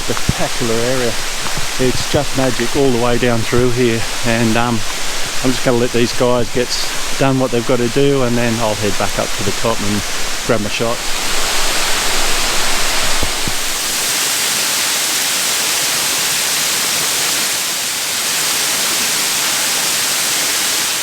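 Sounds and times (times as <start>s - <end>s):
waterfall hiss: 0.0s - 21.0s.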